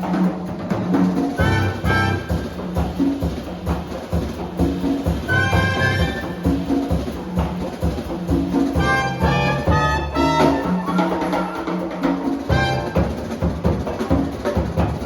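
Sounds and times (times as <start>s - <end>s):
latin jazz band playing: 0.0s - 15.0s.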